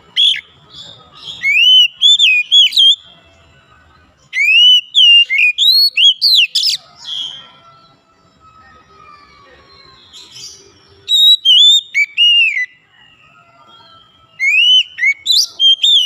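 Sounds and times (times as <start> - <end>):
bird singing whistled notes: 0.0 - 16.0.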